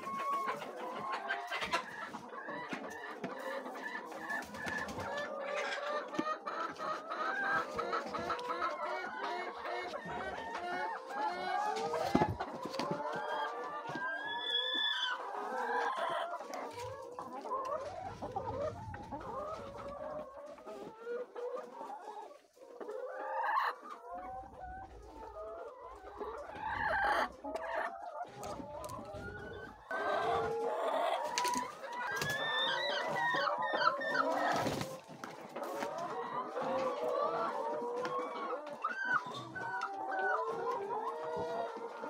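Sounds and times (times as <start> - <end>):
hens clucking: 0.0 - 42.0.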